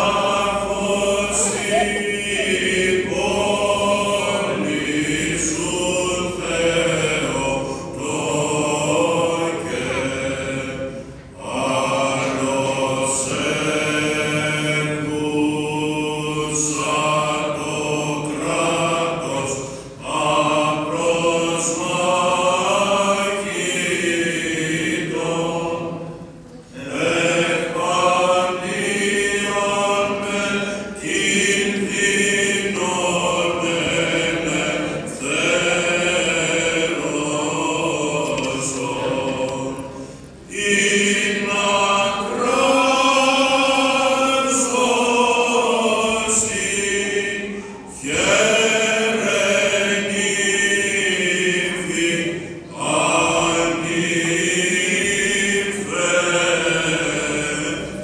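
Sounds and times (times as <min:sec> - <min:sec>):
unaccompanied chanting of a hymn: 0:00.0 - 0:58.0.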